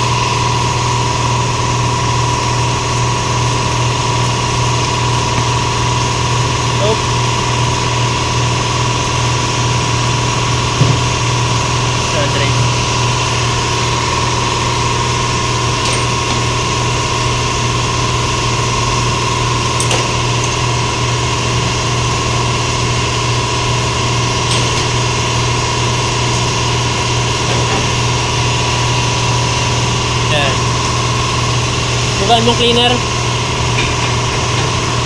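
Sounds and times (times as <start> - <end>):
machine drone with thin tone: 0.0 - 35.0.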